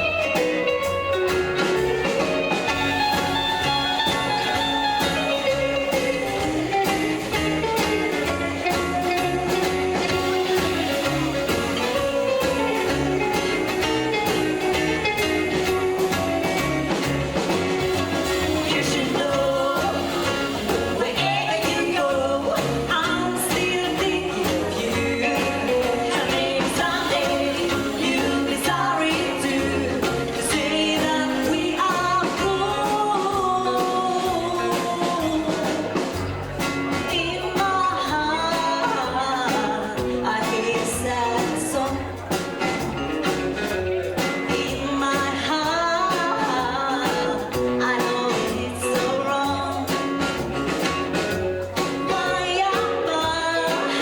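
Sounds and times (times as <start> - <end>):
driving drum beat: 0.0 - 54.0
electric guitar: 0.0 - 54.0
person singing: 1.6 - 36.2, 44.2 - 50.9, 51.8 - 54.0.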